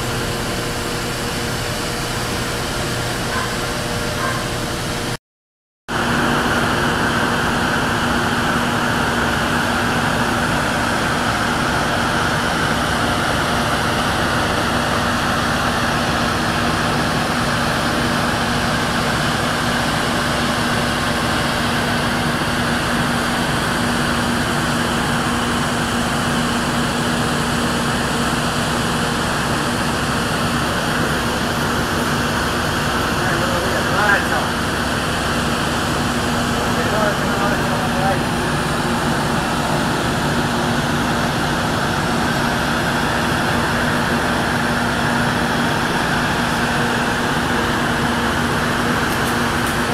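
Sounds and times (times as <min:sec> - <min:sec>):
ferry machinery droning: 0:00.0 - 0:05.2, 0:05.9 - 0:49.9.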